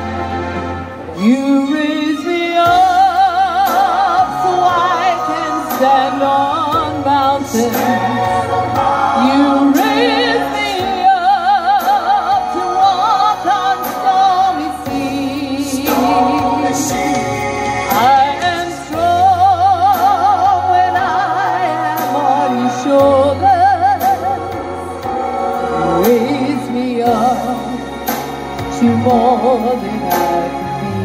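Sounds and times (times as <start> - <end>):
recorded backing track: 0.0 - 31.0
woman singing with vibrato: 1.1 - 24.9, 25.5 - 28.1, 28.7 - 31.0.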